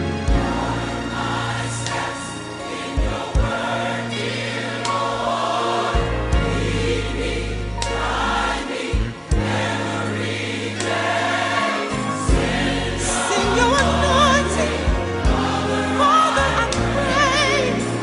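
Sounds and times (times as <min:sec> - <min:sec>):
gospel choir singing: 0:00.0 - 0:18.0
wavering lead vocal: 0:00.4 - 0:18.0.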